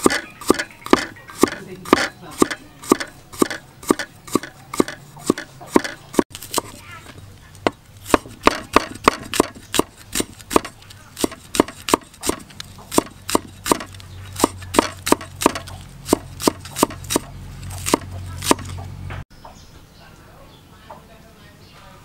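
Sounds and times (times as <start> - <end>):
cleaver chopping on wooden board: 0.0 - 19.0.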